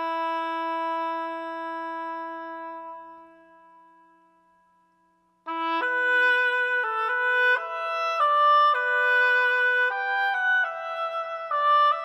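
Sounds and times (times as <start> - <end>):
long held woodwind note: 0.0 - 4.4, 5.5 - 12.0
woodwind melody: 0.0 - 4.4, 5.5 - 12.0.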